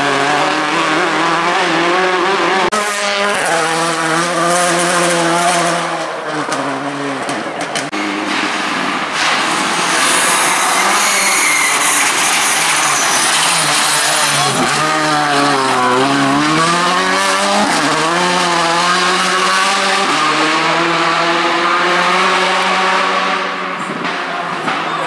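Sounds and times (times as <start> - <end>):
rally car engine passing: 0.0 - 25.0.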